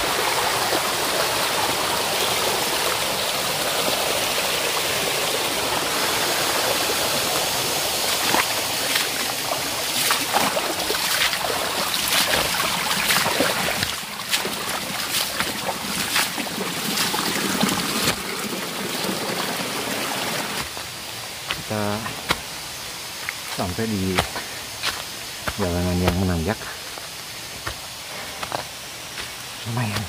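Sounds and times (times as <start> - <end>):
stream water running: 0.0 - 30.0.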